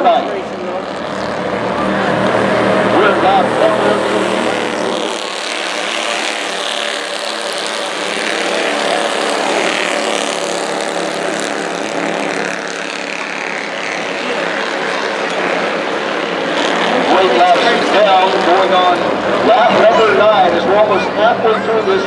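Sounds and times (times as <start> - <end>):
race car engines droning: 0.0 - 22.0.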